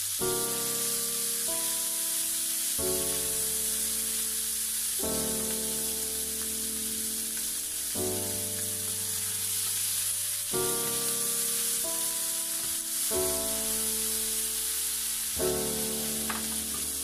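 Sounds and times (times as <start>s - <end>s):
background music of held chords: 0.0s - 17.0s
meat sizzling in a frying pan: 0.0s - 17.0s.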